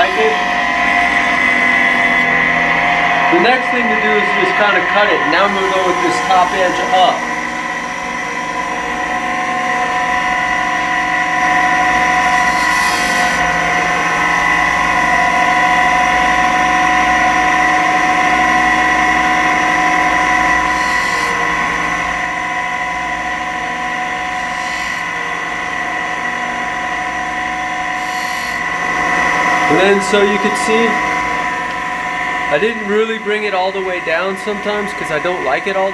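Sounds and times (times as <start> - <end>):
power tool motor whine: 0.0 - 35.9.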